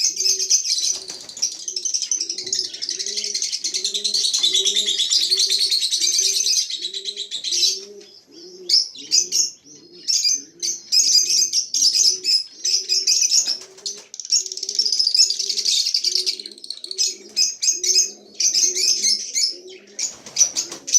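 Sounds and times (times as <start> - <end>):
lovebirds chattering shrilly: 0.0 - 20.9.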